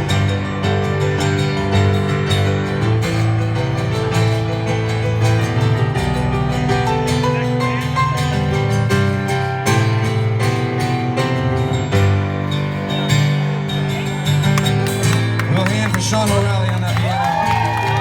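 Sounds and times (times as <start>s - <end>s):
bass: 0.0s - 18.0s
strummed guitar: 0.0s - 18.0s.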